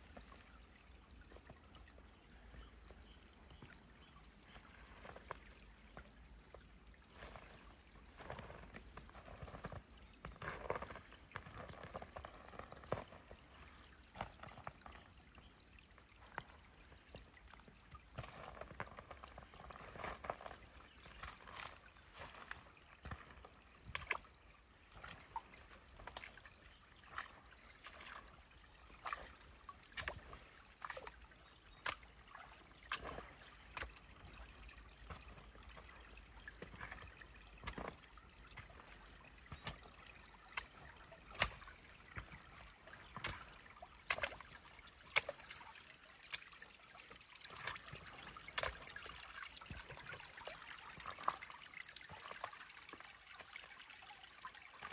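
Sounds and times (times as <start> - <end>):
stream trickling: 0.0 - 54.9
water drips and splashes: 0.0 - 54.9.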